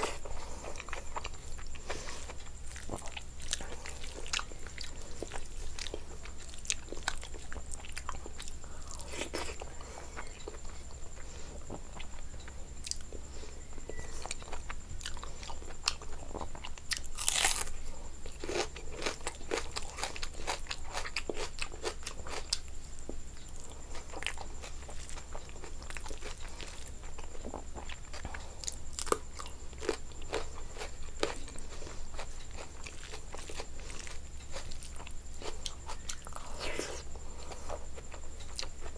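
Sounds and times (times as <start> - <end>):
faint high whine: 0.0 - 38.9
person chewing food: 0.0 - 38.9.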